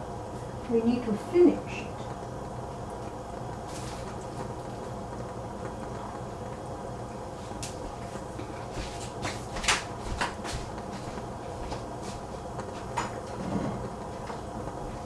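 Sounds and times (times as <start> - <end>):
steady background hum: 0.0 - 15.0
ticks and crackles in hot oil: 0.0 - 15.0.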